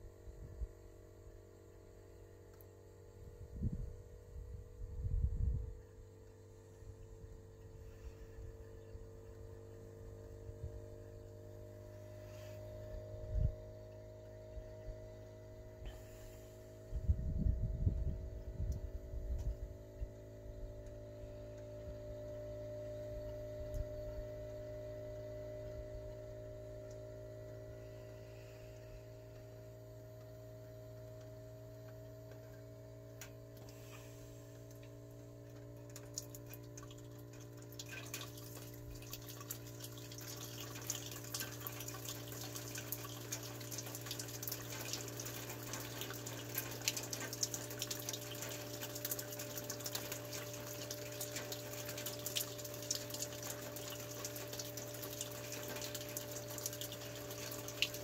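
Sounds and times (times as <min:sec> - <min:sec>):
heat pump humming with tones: 0:00.0 - 0:58.0.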